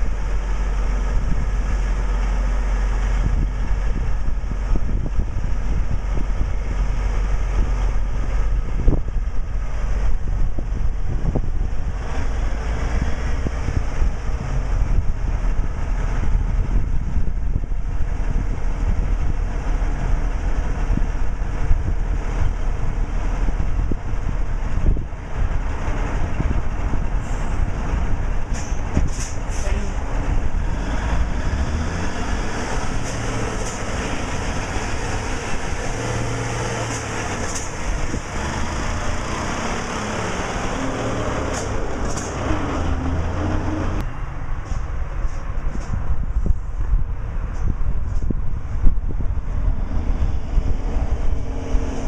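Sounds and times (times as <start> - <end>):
diesel truck engine running: 0.0 - 52.0.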